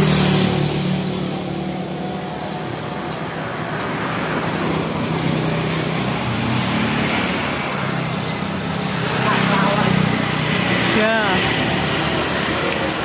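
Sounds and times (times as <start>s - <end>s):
vehicles passing by: 0.0s - 13.0s.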